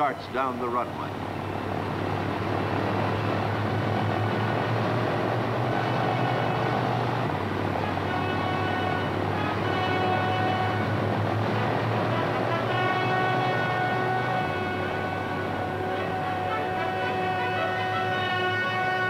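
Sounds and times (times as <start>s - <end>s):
propeller aircraft engines droning: 0.0s - 19.0s.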